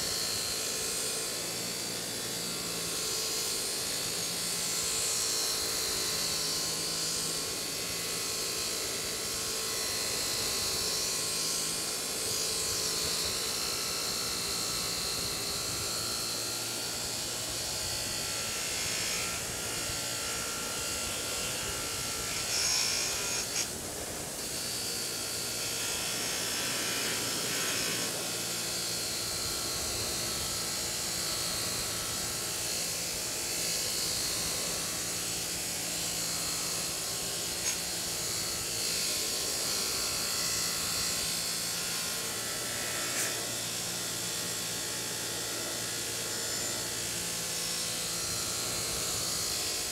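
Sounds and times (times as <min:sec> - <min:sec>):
bench grinder motor hum: 0:00.0 - 0:49.9.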